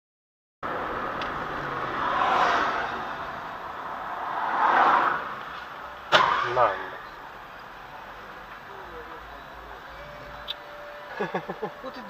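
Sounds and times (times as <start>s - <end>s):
road and traffic noise: 0.6s - 12.0s.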